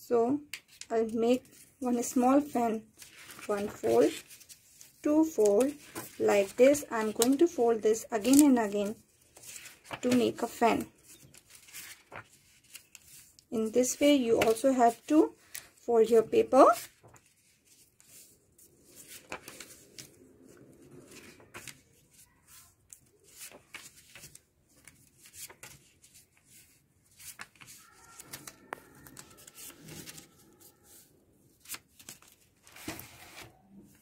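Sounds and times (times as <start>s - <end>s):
paper rustling and crackling: 0.5s - 34.0s.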